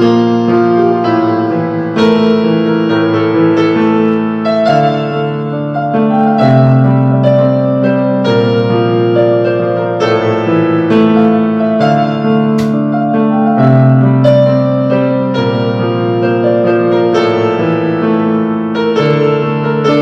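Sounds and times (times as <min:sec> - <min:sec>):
solo piano melody: 0:00.0 - 0:20.0.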